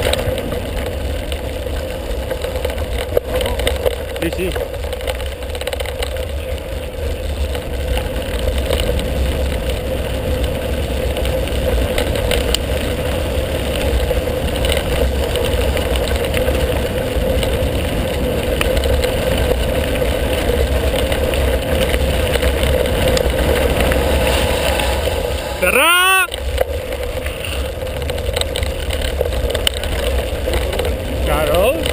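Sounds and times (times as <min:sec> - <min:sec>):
tyres rolling over gravel: 0:00.0 - 0:31.9
wind buffeting microphone: 0:00.0 - 0:31.9.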